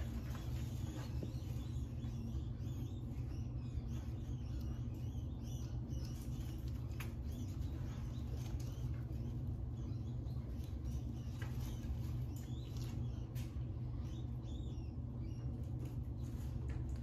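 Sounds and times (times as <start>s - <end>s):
low hum: 0.0s - 17.0s
rats squeaking: 0.0s - 17.0s.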